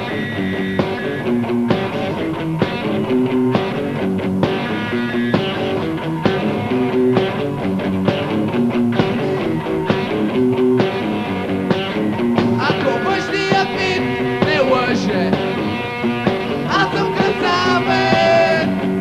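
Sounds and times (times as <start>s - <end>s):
bass guitar: 0.0s - 19.0s
electric guitar riff: 0.0s - 19.0s.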